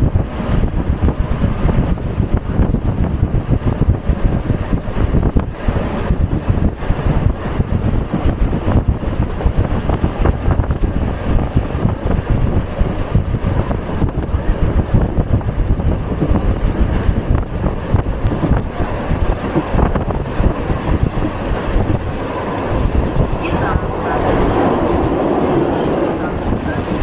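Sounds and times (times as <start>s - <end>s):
train running on track: 0.0s - 27.0s
wind buffeting microphone: 0.0s - 27.0s.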